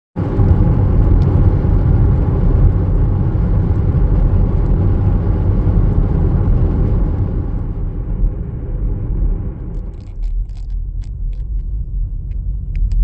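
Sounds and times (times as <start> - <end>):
car rumbling in motion: 0.2 - 13.0.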